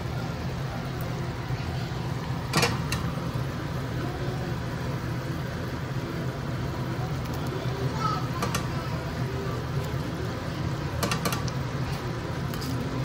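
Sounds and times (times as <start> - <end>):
curry boiling hard in a pan: 0.0 - 13.0
steady low hum: 0.0 - 13.0.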